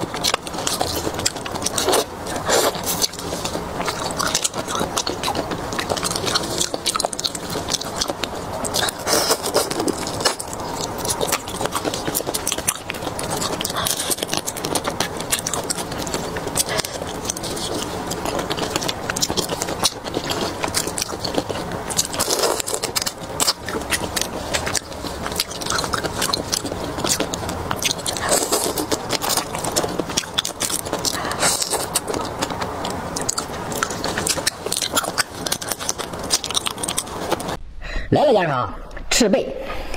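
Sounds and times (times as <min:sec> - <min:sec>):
person chewing: 0:00.0 - 0:37.6
shell crackling and crunching: 0:00.0 - 0:37.6.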